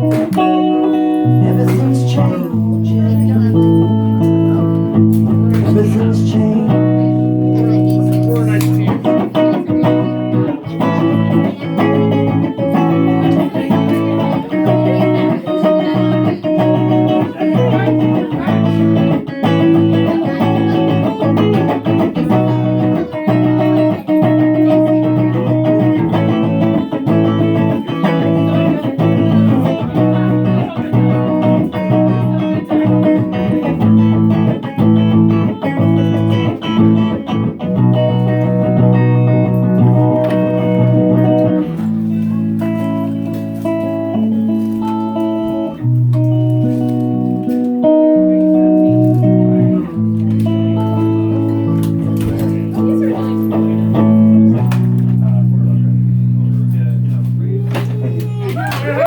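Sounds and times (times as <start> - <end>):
electric guitar picked notes: 0.0 - 59.0
low bass notes: 0.0 - 59.0.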